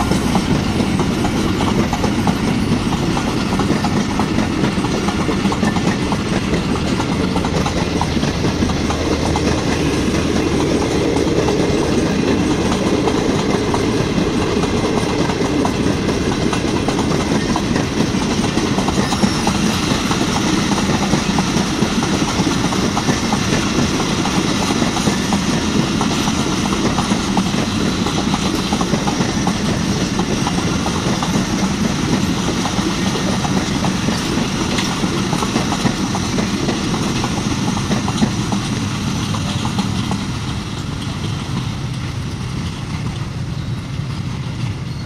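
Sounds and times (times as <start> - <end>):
train coaches rumbling past: 0.0 - 45.0.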